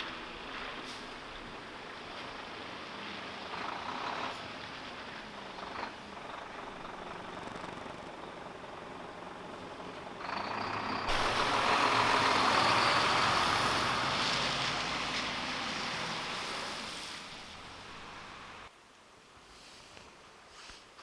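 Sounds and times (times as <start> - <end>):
large vehicle passing: 0.0 - 18.7.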